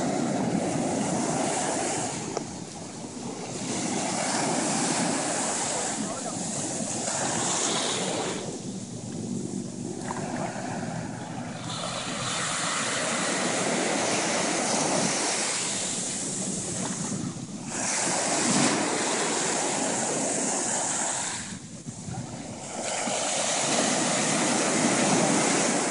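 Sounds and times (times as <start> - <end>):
ocean surf breaking: 0.0 - 25.9.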